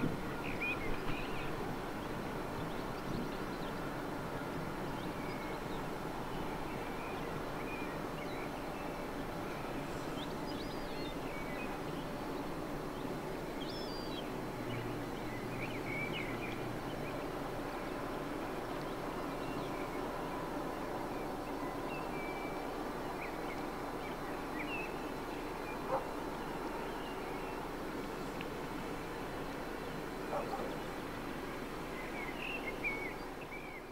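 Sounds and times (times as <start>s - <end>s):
low riverside rumble: 0.0s - 33.9s.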